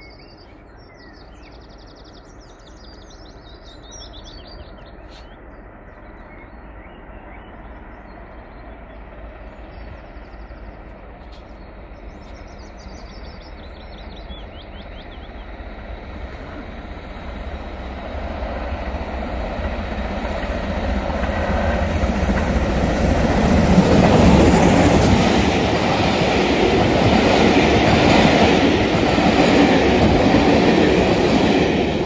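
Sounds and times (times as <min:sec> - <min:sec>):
steam train passing: 0:00.0 - 0:32.0.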